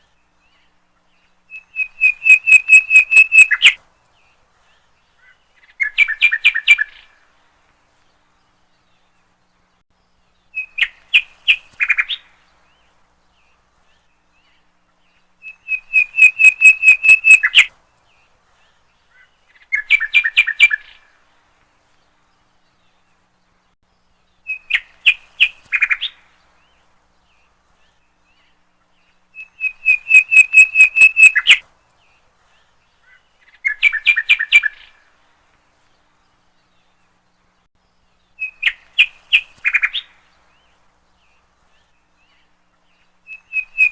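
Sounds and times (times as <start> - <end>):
songbird chirping phrases: 0.0 - 43.9.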